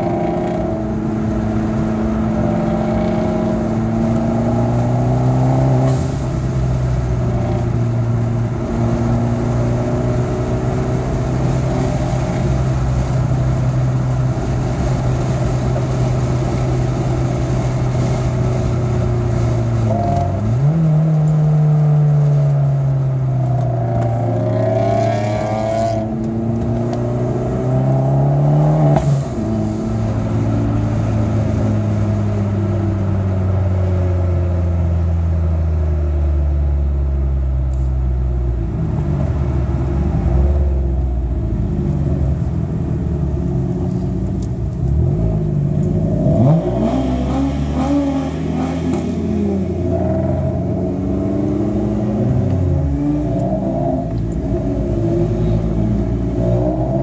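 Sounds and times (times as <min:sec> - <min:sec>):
car engine revving: 0:00.0 - 0:33.8, 0:38.6 - 0:57.0.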